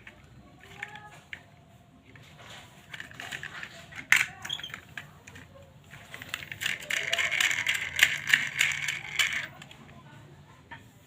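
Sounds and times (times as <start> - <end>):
toy cars clattering in a box: 0.0 - 10.0.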